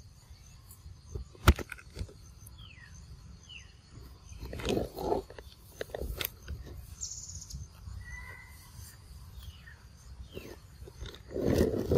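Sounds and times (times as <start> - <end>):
falling bird chirps: 0.1 - 11.4.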